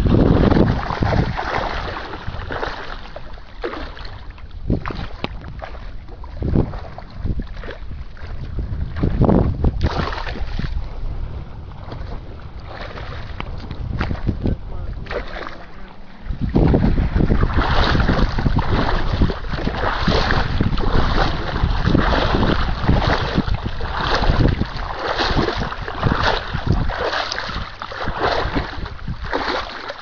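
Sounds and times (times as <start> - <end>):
wading through shallow water: 0.0 - 30.0
wind noise on microphone: 0.0 - 30.0.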